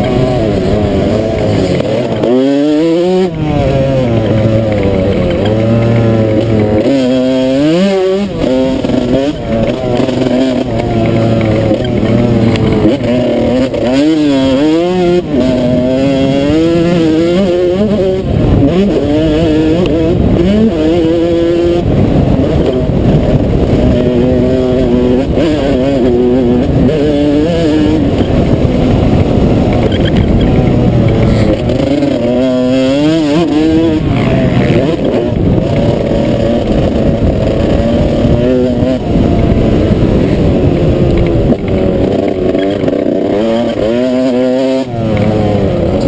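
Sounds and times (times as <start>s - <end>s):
dirt bike engine revving: 0.0s - 46.0s
wind rumble on microphone: 0.0s - 46.0s.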